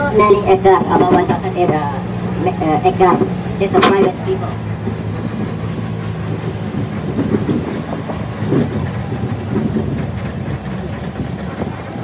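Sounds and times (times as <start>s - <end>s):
tram engine running: 0.0s - 12.0s.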